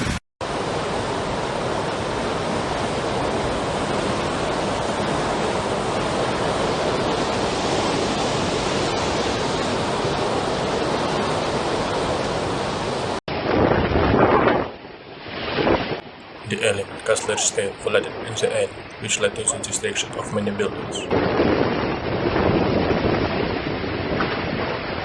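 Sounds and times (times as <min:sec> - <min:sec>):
water rushing in storm: 0:00.4 - 0:14.2, 0:16.6 - 0:25.0.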